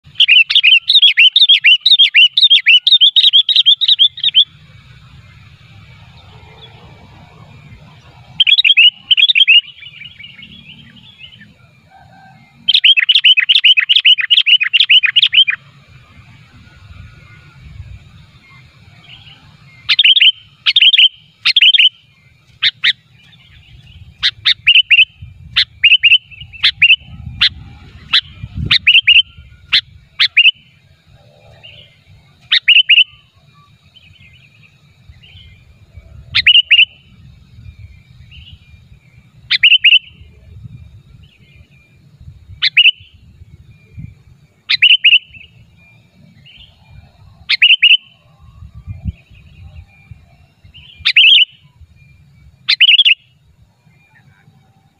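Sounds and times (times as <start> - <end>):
bird calling in sharp notes: 0.0 - 6.4, 7.7 - 54.9.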